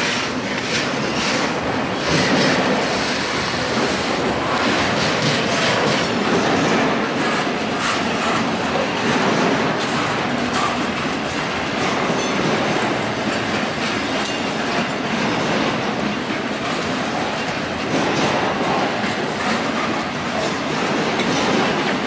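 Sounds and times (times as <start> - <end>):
steel wheels rolling on rail: 0.0 - 22.0
wheels clicking over rail joints: 0.1 - 22.0.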